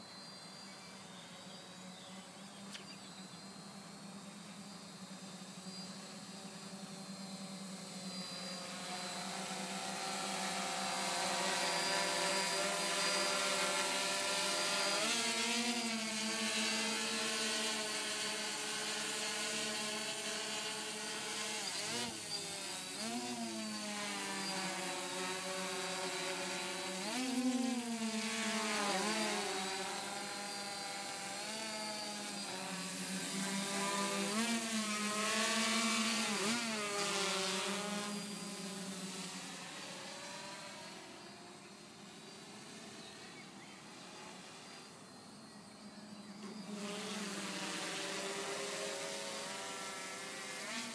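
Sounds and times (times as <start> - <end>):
drone motors buzzing: 0.0 - 50.9.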